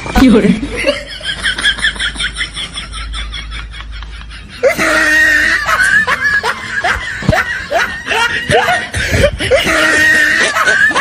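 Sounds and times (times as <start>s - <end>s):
giggling laughter: 0.7s - 11.0s.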